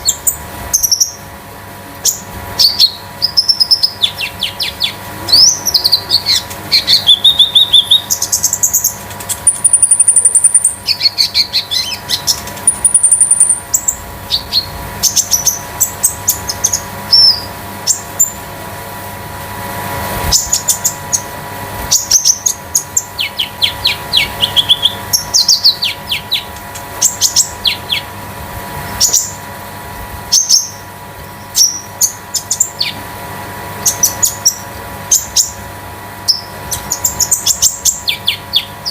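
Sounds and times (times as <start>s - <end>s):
songbird singing: 0.0s - 1.3s, 2.0s - 18.4s, 21.9s - 28.1s, 29.0s - 29.4s, 30.3s - 33.0s, 33.8s - 35.6s, 36.2s - 38.9s
faint steady hum: 0.0s - 38.9s.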